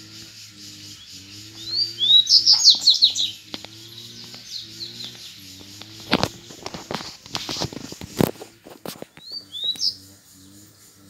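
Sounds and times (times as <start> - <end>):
bird singing high sweeping notes: 0.0 - 7.3, 9.1 - 11.0.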